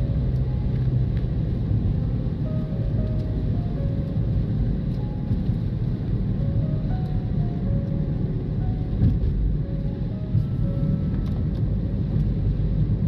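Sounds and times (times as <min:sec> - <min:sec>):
car driving rumble: 0:00.0 - 0:13.0
soft slow music: 0:00.0 - 0:13.0.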